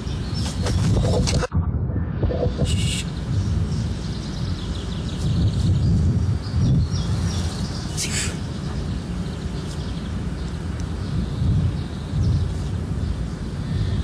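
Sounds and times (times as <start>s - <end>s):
small birds chirping: 0.0s - 1.5s, 2.3s - 14.0s
steady low rumble: 0.0s - 14.0s.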